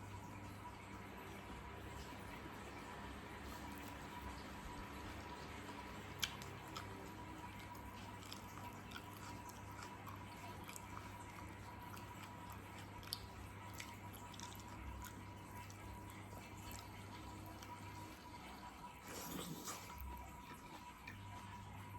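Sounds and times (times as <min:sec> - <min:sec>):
wet chewing sounds: 0:01.1 - 0:21.8.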